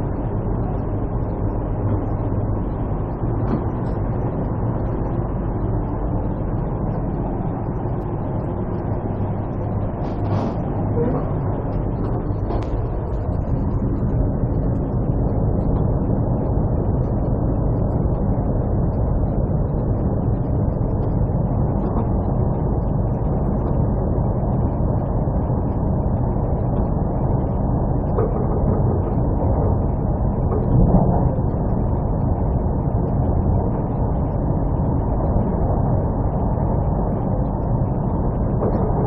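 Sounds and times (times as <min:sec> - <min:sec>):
train rumble inside carriage: 0:00.0 - 0:39.0.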